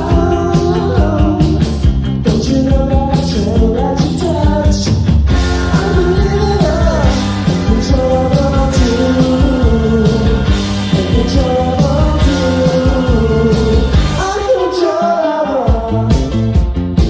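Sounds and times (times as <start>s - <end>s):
steady drum beat: 0.0s - 14.4s, 15.7s - 17.0s
rock song with singing: 0.0s - 17.0s.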